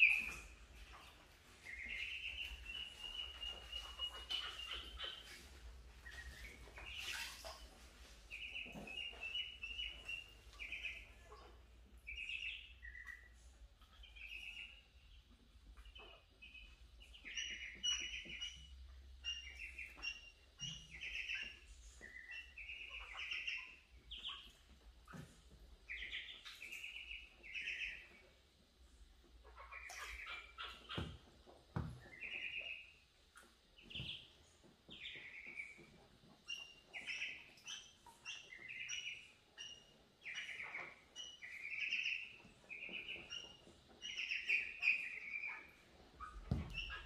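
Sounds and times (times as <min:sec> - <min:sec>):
ducklings peeping: 0:00.0 - 0:47.0.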